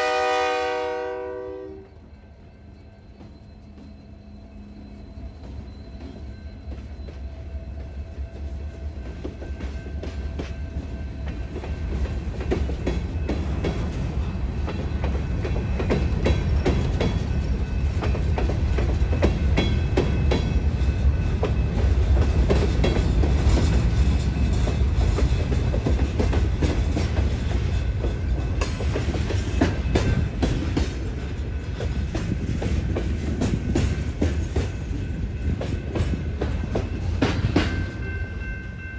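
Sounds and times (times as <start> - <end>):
freight train rumble: 0.0 - 38.9.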